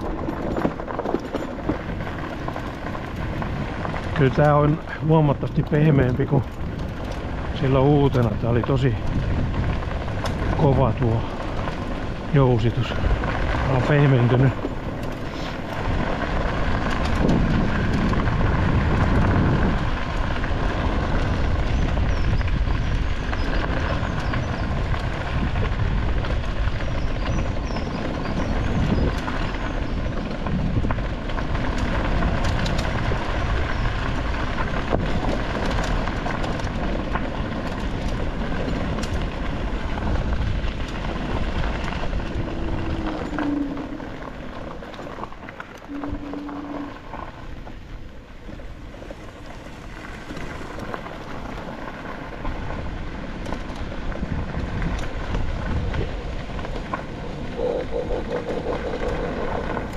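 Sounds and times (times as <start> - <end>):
off-road vehicle engine running: 0.0 - 59.9
rumble over rough ground: 0.0 - 59.9.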